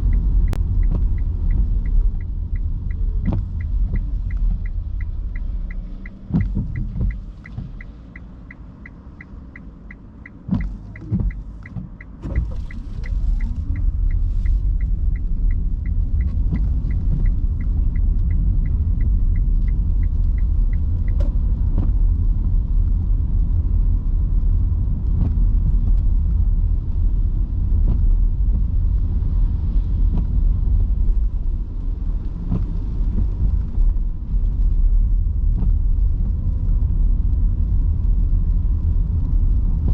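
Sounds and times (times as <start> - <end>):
turn signal ticking: 0.0 - 39.9.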